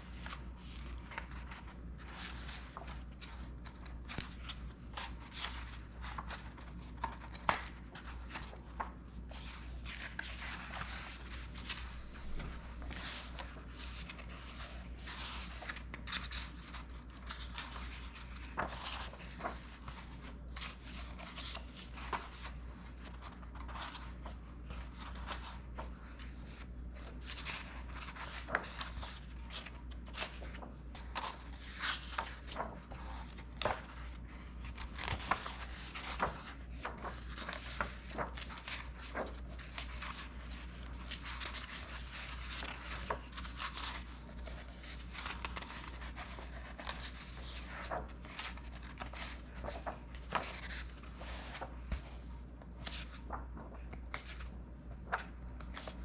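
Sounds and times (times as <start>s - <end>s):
book pages being turned: 0.0s - 56.0s.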